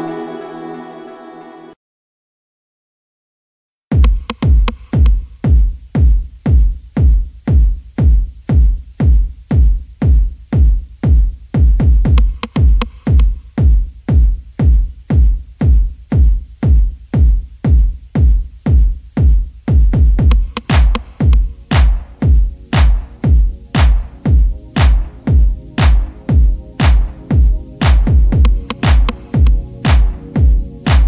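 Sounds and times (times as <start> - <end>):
electronic dance music: 0.0 - 1.8, 3.9 - 31.0
heavy kick drum: 3.9 - 31.0.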